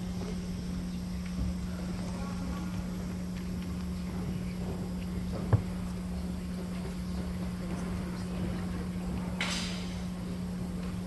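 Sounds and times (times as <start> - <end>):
distant murmuring voices: 0.0 - 11.0
steady low hum: 0.0 - 11.0.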